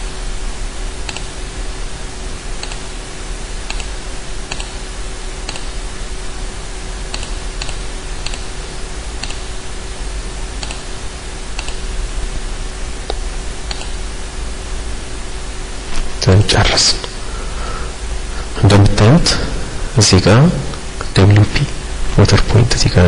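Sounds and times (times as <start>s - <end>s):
low hum: 0.0s - 23.0s
steady hiss: 0.0s - 23.0s.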